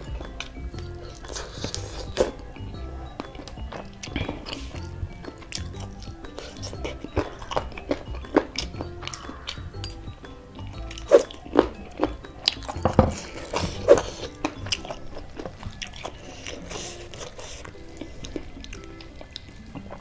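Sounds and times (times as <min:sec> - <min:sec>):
background music: 0:00.0 - 0:20.0
close-up chewing and biting: 0:00.0 - 0:20.0
mouth clicks: 0:00.0 - 0:20.0.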